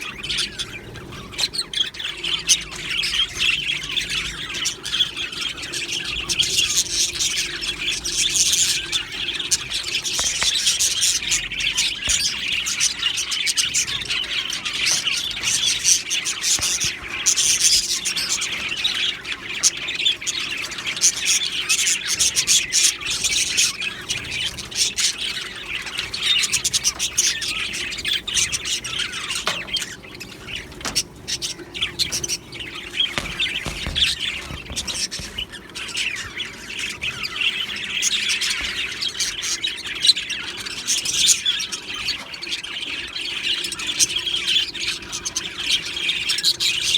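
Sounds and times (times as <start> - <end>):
flock of budgerigars chirping: 0.0 - 46.9.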